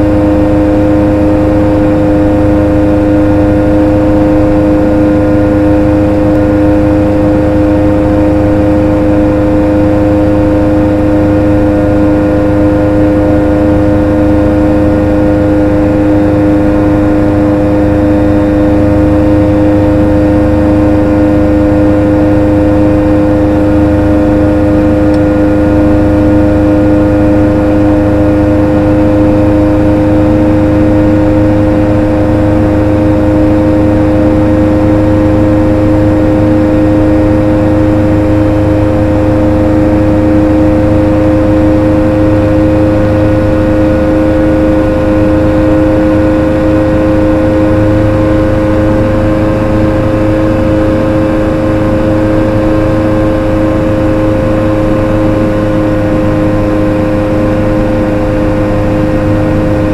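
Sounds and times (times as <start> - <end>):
light aircraft engine droning: 0.0 - 59.9.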